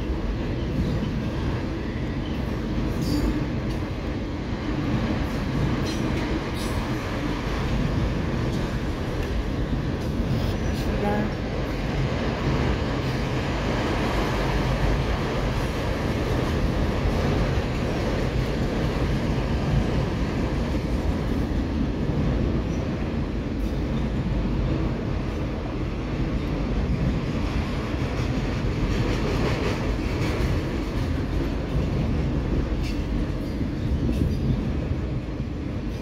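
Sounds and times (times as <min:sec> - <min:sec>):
steel wheels on rail: 0:00.0 - 0:25.5, 0:26.4 - 0:36.0.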